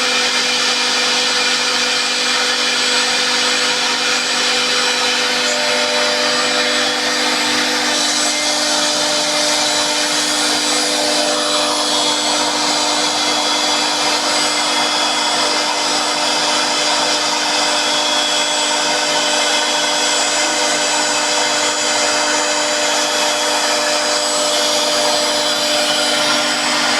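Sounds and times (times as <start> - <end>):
machine cutting noise: 0.0 - 26.9
spindle motor whine: 0.0 - 26.9.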